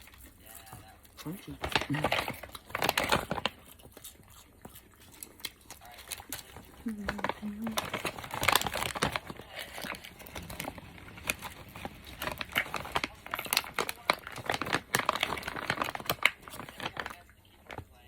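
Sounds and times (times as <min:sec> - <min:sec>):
chewing crunchy food: 0:00.0 - 0:18.0.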